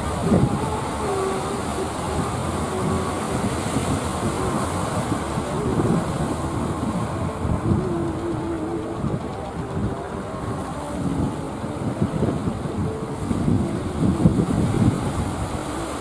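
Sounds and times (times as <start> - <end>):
boat engine running: 0.0 - 16.0
bow wave rushing: 0.0 - 16.0.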